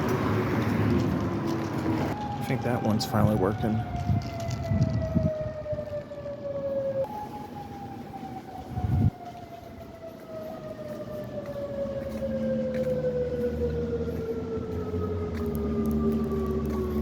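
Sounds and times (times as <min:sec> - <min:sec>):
electronic warning siren: 0:01.0 - 0:17.0.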